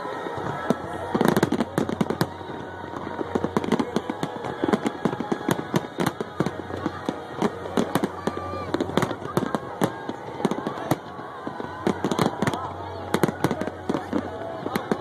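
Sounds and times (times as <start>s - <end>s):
fireworks crackling bangs: 0.0s - 15.0s.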